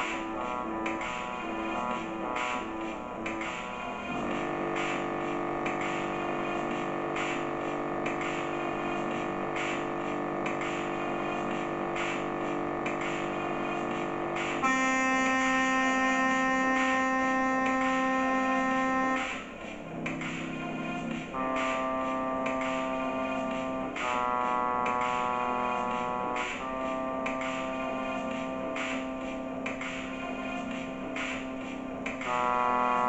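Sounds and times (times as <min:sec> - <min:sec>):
electronic keyboard drone: 0:00.0 - 0:33.0.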